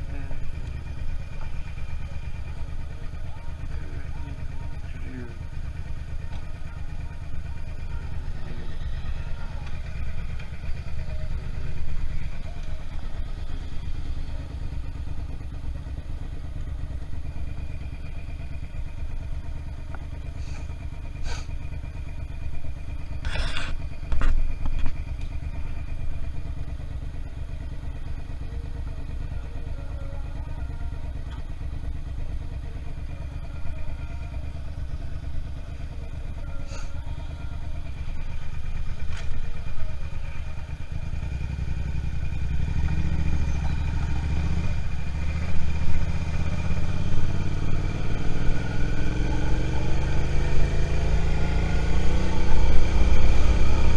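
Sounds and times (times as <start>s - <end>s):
motorcycle engine rumbling: 0.0s - 53.9s.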